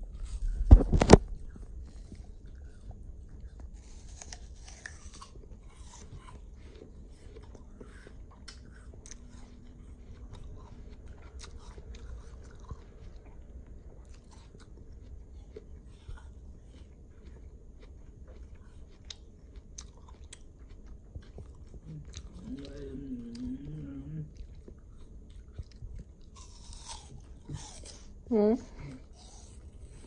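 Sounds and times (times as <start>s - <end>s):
person chewing crisp apple: 0.0s - 28.2s, 28.8s - 30.0s.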